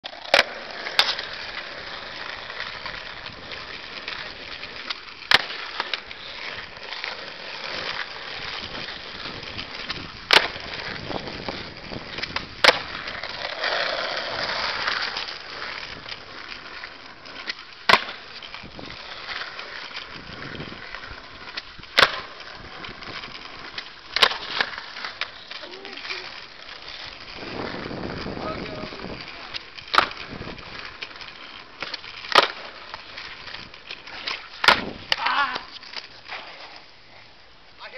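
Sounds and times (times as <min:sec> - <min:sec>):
skateboard deck cracking and landing: 0:00.0 - 0:37.3
skateboard wheels rolling on asphalt: 0:00.0 - 0:37.9.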